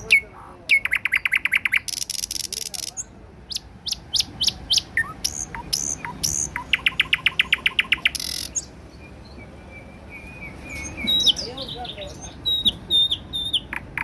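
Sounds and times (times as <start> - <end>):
nightingale singing: 0.0 - 14.0.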